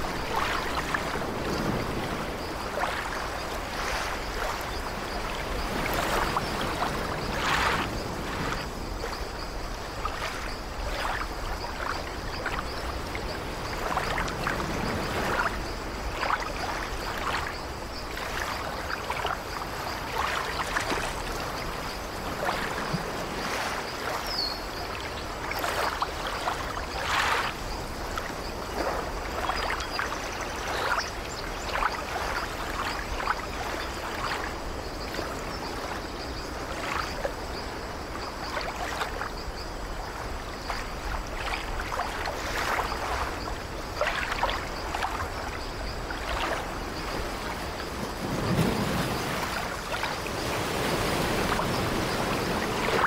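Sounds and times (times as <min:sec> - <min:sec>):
surf washing onto shore: 0:00.0 - 0:53.0.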